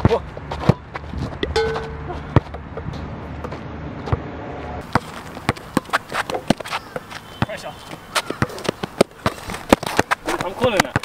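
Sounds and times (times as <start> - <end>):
basketball bouncing on asphalt: 0.0 - 11.0.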